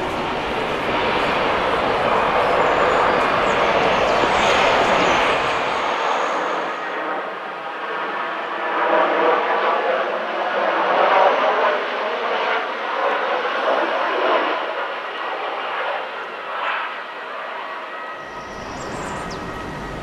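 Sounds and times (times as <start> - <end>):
faint steady jet whine: 0.0 - 20.0
jet engines rushing: 0.0 - 20.0.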